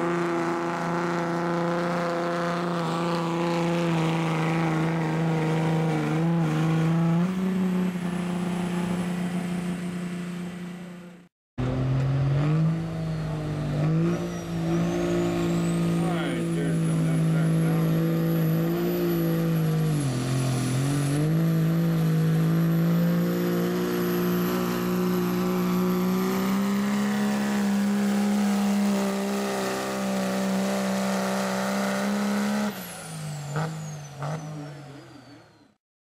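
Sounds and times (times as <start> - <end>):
diesel pickup engine at full throttle: 0.0 - 35.8.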